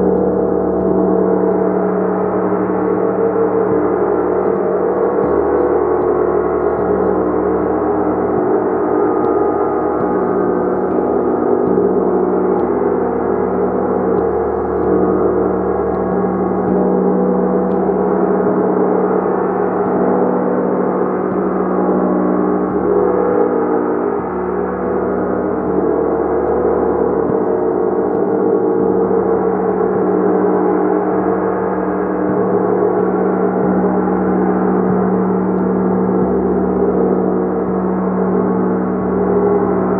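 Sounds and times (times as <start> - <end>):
gong ringing: 0.0 - 39.9.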